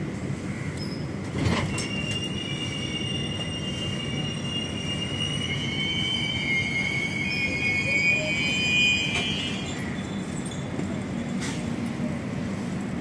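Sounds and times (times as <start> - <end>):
train wheels squealing on rails: 0.2 - 12.7.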